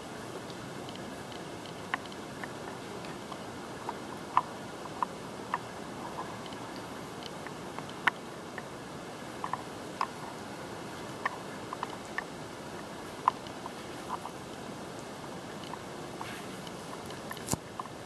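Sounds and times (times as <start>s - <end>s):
steady hiss: 0.0s - 18.0s
light clicks and ticks: 0.4s - 8.7s, 9.4s - 18.0s.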